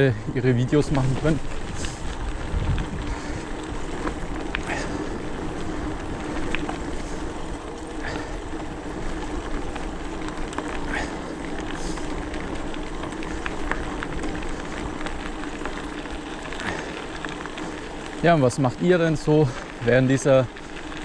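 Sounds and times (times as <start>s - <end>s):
bike clicks: 0.0s - 21.0s.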